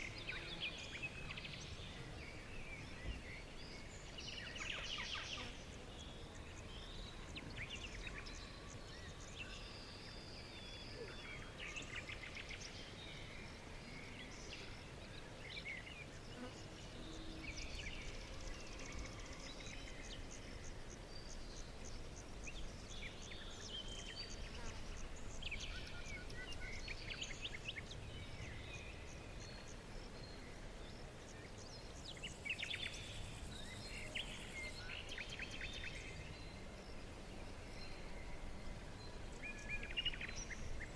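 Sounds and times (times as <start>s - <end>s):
steady low background noise: 0.0s - 40.9s.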